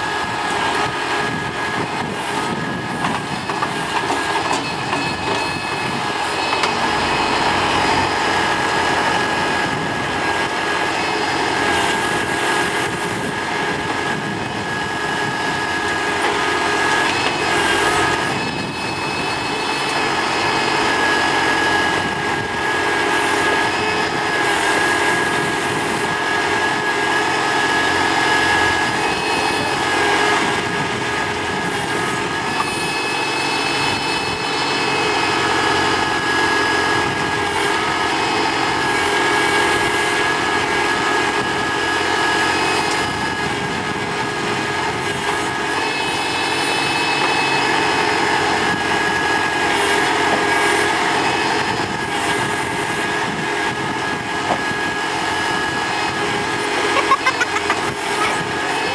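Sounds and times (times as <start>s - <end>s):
backhoe digging soil: 0.0s - 58.9s
steady whine: 0.0s - 58.9s
tractor engine running: 0.0s - 58.9s.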